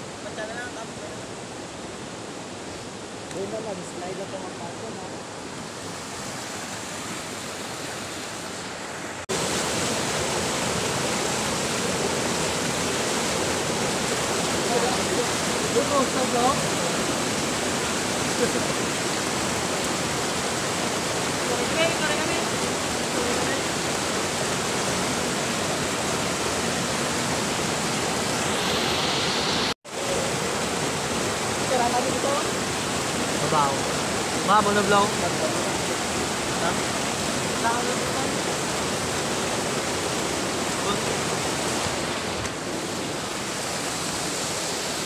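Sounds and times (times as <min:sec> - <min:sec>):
river rapids rushing: 0:00.0 - 0:45.0.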